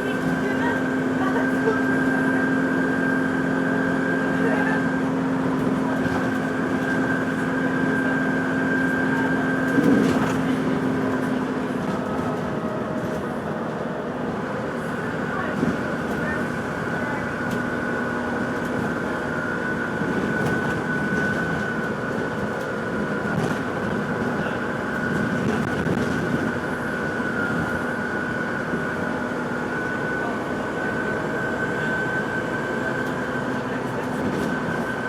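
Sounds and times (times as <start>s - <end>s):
vehicle rumble: 0.0s - 35.0s.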